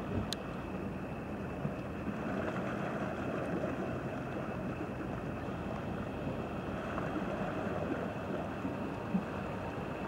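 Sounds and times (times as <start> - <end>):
faint steady hum: 0.0 - 10.0
river water flowing: 0.0 - 10.0.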